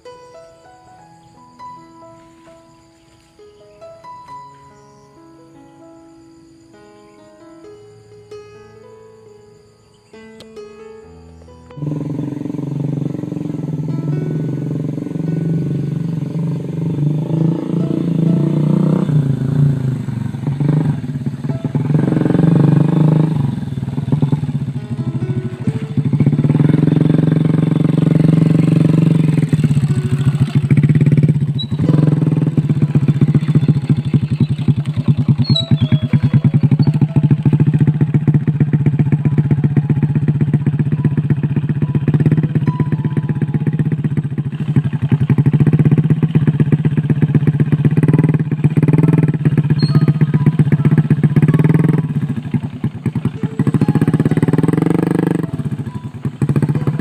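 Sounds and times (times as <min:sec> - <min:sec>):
small motorcycle engine running: 0:11.4 - 0:57.0.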